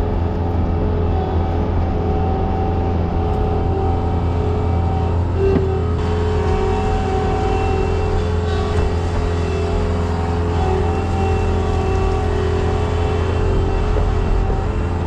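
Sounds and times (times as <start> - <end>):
high engine whine: 0.0 - 15.0
tractor engine drone: 0.0 - 15.0.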